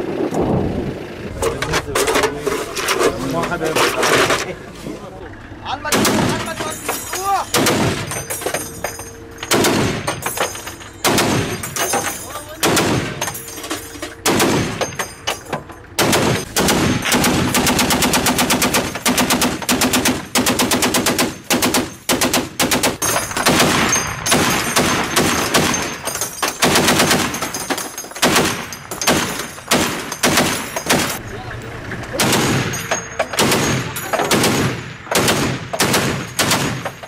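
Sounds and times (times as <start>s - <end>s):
heavy machine gun bursts: 5.3s - 37.0s.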